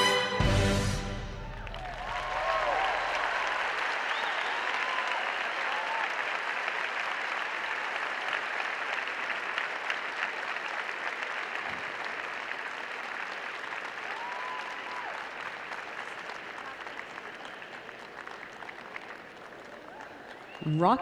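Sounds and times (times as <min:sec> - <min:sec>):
audience applauding: 0:01.2 - 0:21.0.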